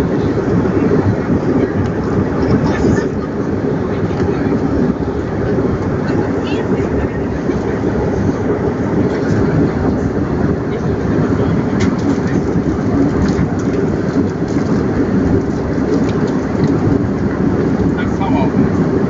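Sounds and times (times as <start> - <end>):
airplane cabin engine roar: 0.0 - 19.0.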